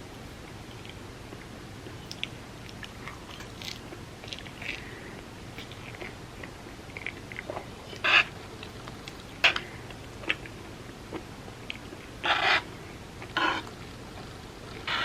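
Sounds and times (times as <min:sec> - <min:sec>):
person chewing crunchy food: 0:00.7 - 0:15.0.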